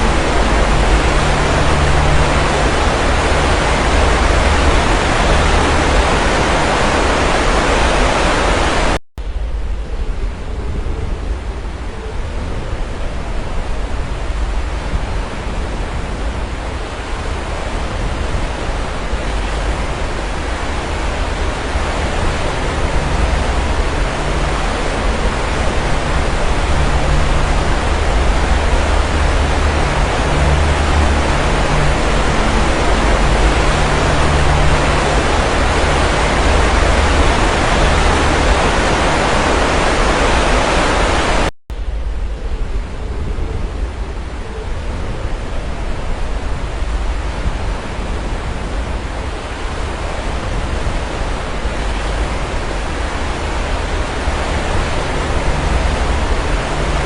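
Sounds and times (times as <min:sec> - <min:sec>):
sea waves washing on shore: 0:00.0 - 0:09.0, 0:11.1 - 0:42.2, 0:42.8 - 0:57.0
low rumble: 0:00.0 - 0:57.0.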